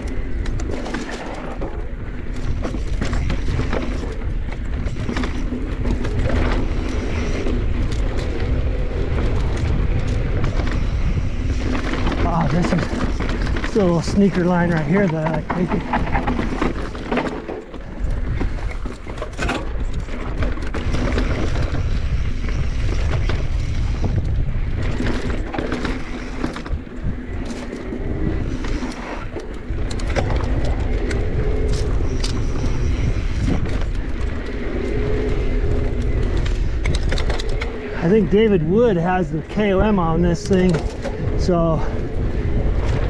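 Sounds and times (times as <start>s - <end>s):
bike rattling over rough ground: 0.0s - 43.0s
wind and tyre noise: 0.0s - 43.0s.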